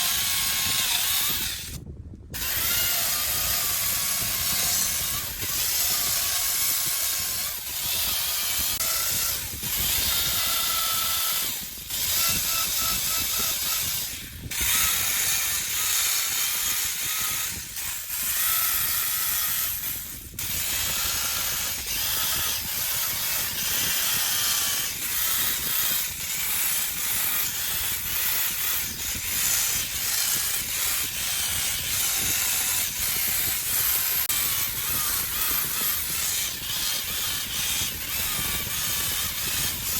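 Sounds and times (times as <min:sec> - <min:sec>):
chainsaw cutting wood: 0:00.0 - 0:01.8, 0:02.4 - 0:39.9.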